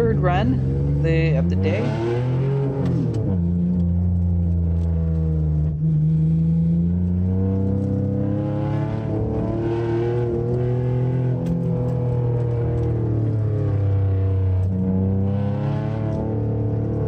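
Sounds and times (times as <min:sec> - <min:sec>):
car engine working hard: 0:00.0 - 0:17.0.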